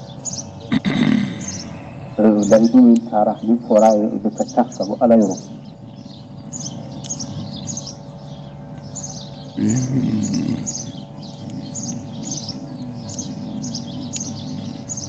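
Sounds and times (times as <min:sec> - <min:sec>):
bird chirping: 0:00.0 - 0:15.0
low murmur: 0:00.0 - 0:15.0
steady hum: 0:00.0 - 0:15.0.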